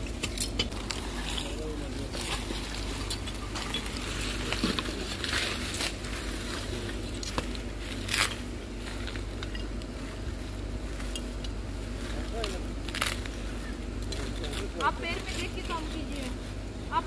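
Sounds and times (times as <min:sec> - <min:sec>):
loud crunch: 0:00.0 - 0:10.0, 0:10.6 - 0:14.8
plastic bags and litter rustling: 0:00.0 - 0:17.0.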